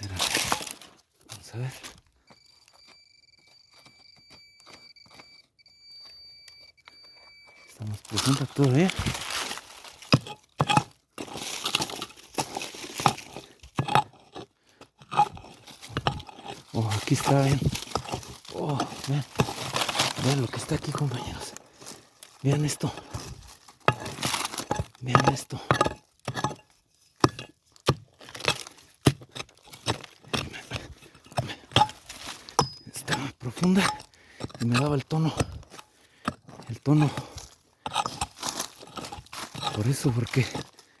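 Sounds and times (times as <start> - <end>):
digging tool scraping stony soil: 0.0 - 2.0, 7.7 - 41.0
tool striking rock: 7.8 - 40.8.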